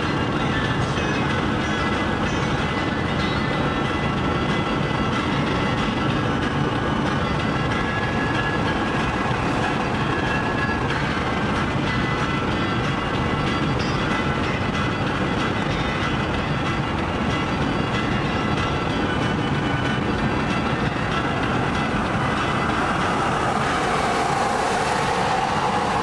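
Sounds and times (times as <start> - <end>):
engine drone: 0.0 - 26.0
higher hum: 0.0 - 26.0.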